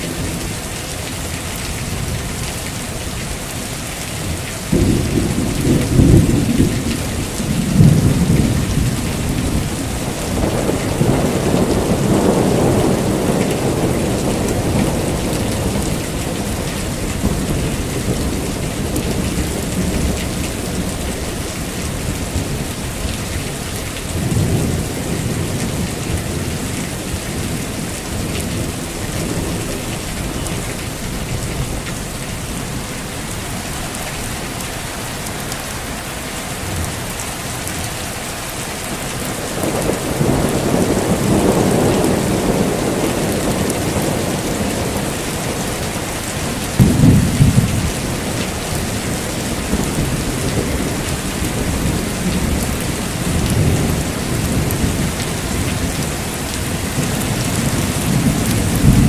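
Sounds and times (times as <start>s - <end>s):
heavy rain falling: 0.0s - 59.0s
thunder rumbling and clapping: 4.2s - 32.9s, 38.9s - 59.0s.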